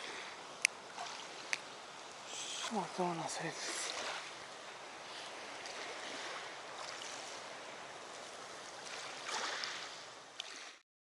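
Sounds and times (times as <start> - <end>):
lake water lapping: 0.0 - 10.8.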